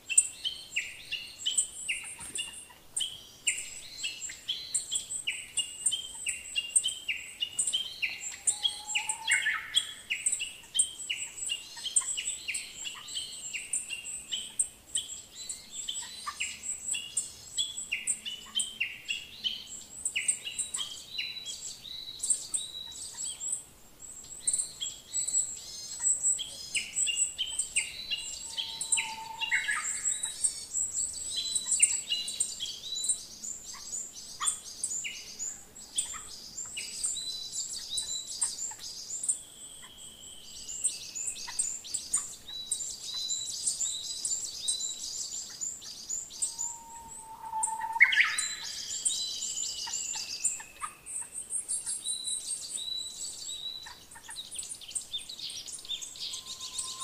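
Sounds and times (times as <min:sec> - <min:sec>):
many birds chirping: 0:00.0 - 0:57.0.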